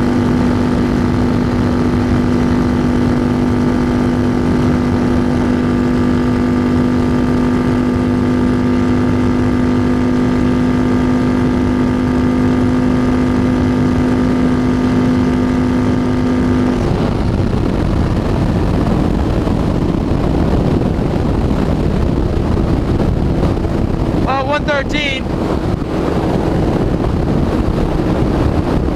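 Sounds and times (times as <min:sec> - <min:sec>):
heavy wind rush: 0:00.0 - 0:28.9
motorcycle engine high drone: 0:00.0 - 0:28.9.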